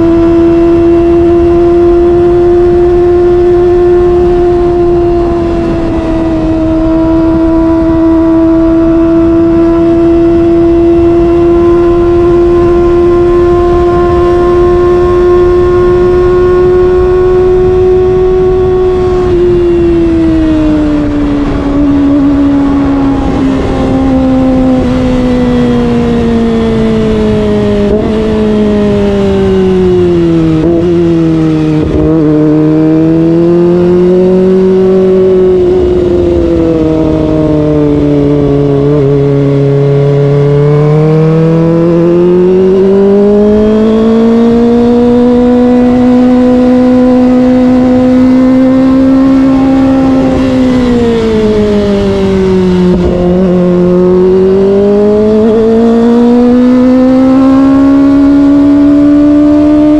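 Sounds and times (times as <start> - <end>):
motorcycle engine at high revs: 0.0 - 59.9
wind noise: 0.0 - 59.9.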